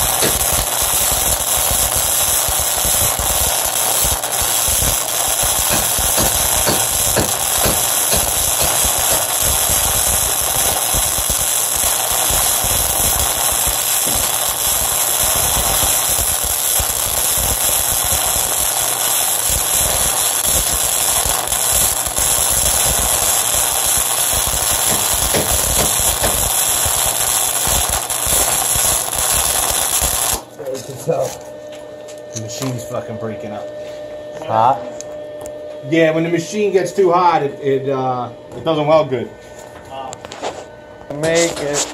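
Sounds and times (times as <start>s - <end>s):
welding arc crackling sizzle: 0.0s - 31.5s, 36.0s - 41.9s.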